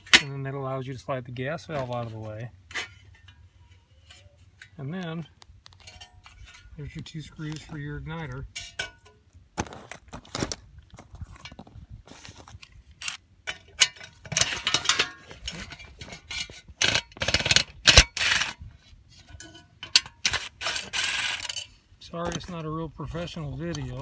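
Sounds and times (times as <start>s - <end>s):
metal tools clinking and scraping: 1.6s - 9.2s, 11.2s - 24.0s.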